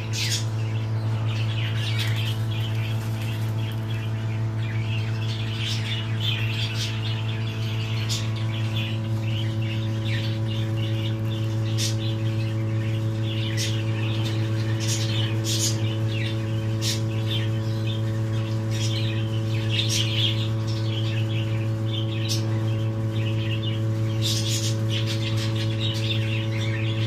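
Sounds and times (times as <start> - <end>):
small birds chirping: 0.0 - 27.0
steady low hum: 0.0 - 27.0.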